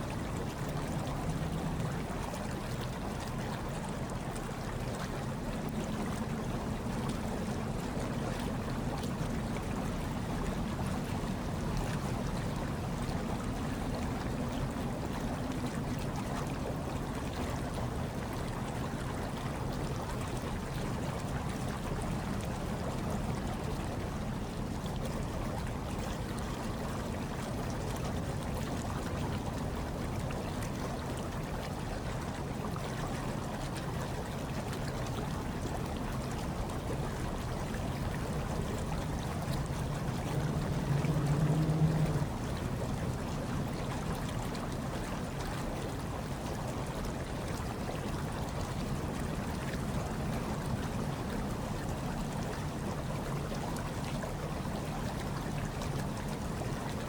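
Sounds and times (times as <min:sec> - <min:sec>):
hot tub water churning: 0:00.0 - 0:57.0.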